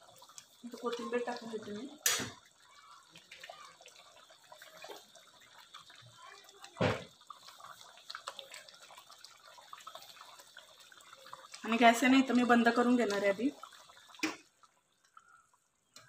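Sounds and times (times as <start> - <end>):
curry bubbles plopping: 0.0 - 16.0.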